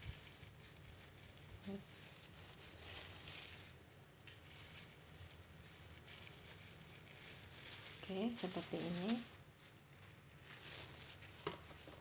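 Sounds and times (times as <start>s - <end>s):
leaf and plastic rustling: 0.0s - 12.0s.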